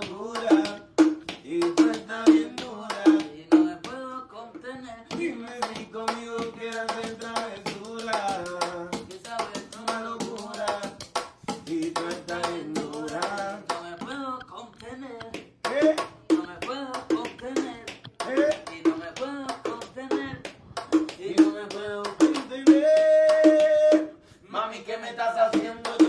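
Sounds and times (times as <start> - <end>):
person singing a cappella: 0.0 - 26.0.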